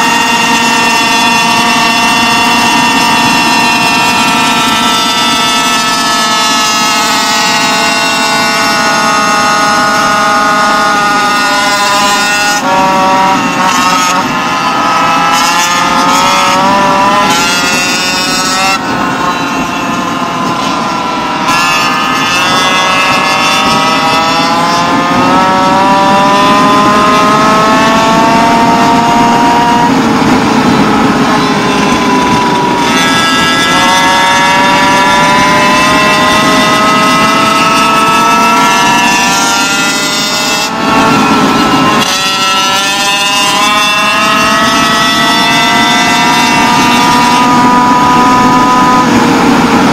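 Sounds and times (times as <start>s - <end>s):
other small engines running: 0.0s - 49.9s
small two-stroke engine revving: 0.0s - 49.9s.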